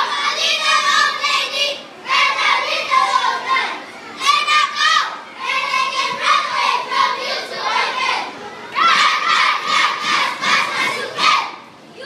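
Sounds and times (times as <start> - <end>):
children reciting in unison: 0.0 - 12.0.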